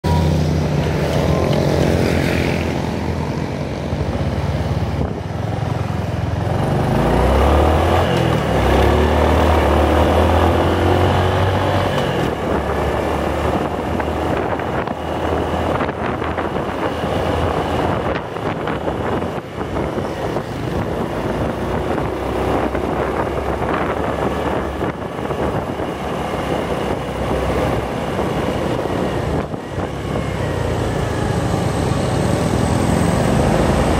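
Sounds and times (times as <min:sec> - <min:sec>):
road traffic: 0:00.0 - 0:33.9
wind rushing over microphone: 0:00.1 - 0:33.9.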